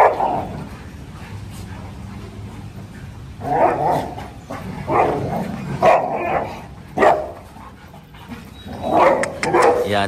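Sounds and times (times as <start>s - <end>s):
dogs barking while play-fighting: 0.0s - 9.9s.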